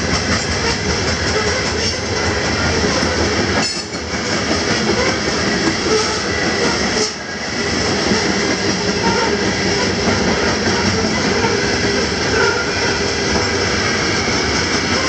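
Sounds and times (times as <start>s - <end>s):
steel wheels clattering on track: 0.0s - 15.0s.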